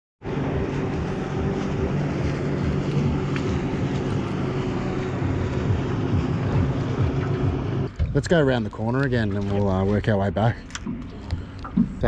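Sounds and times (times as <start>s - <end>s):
outboard motor humming: 0.2s - 12.0s
water rushing: 0.2s - 12.0s.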